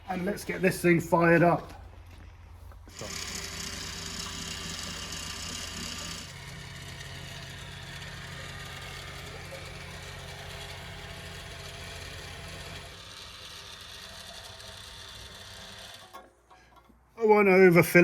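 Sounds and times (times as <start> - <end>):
fuel pump humming: 0.0 - 16.7.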